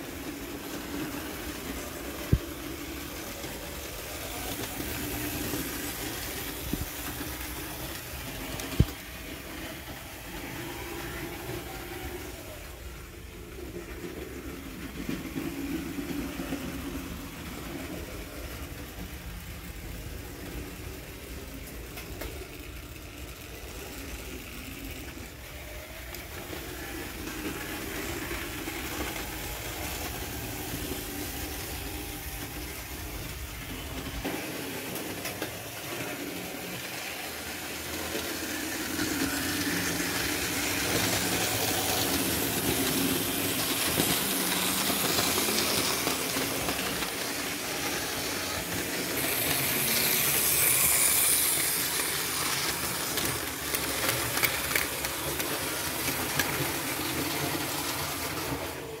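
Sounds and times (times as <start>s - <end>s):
electric motors whirring: 0.0s - 59.0s
hiss: 0.0s - 59.0s
wheels clicking over rails: 0.0s - 59.0s.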